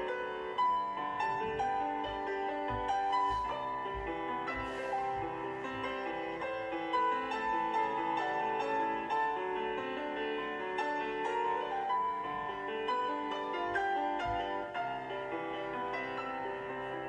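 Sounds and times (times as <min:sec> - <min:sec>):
solo classical piano: 0:00.0 - 0:17.0.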